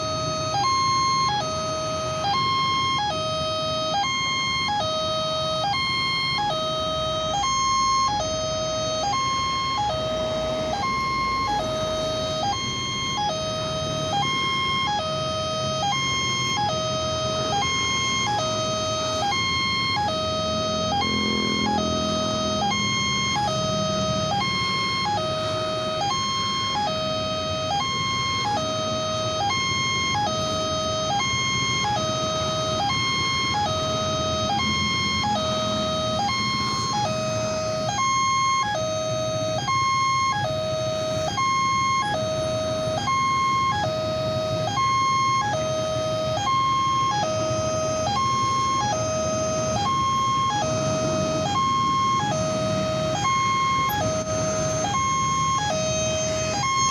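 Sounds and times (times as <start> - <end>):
two-note crossing warning siren: 0.0 - 56.9.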